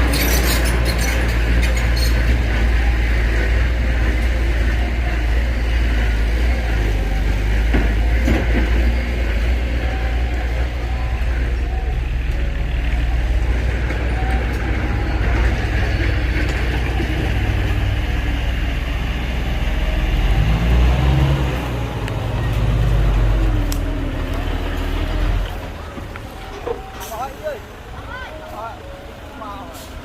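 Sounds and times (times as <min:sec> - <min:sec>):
heavy diesel engine droning and revving: 0:00.0 - 0:30.0.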